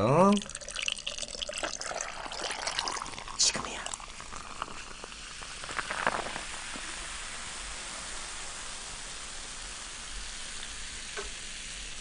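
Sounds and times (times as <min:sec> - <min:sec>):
soda fizzing in a cup: 0:00.1 - 0:12.0.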